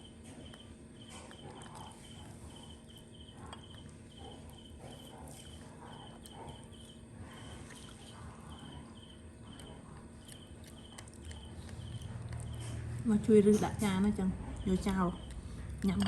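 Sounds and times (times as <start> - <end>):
insect chirping: 0.0 - 12.8, 13.6 - 16.0
low background rumble: 0.4 - 16.0.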